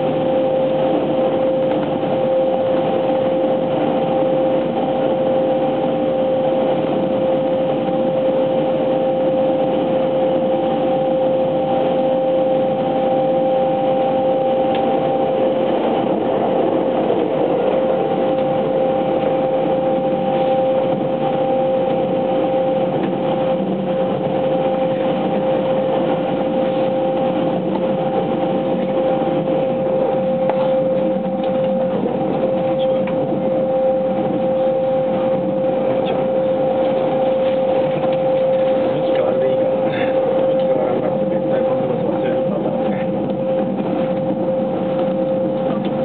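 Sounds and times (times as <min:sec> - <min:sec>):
train wheels rumbling on rail: 0:00.0 - 0:46.0
two-note traction whine: 0:00.0 - 0:46.0.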